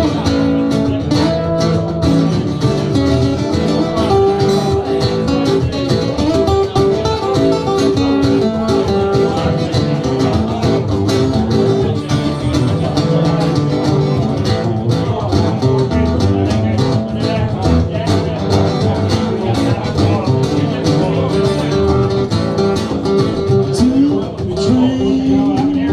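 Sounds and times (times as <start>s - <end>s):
acoustic guitar country melody: 0.0s - 25.9s.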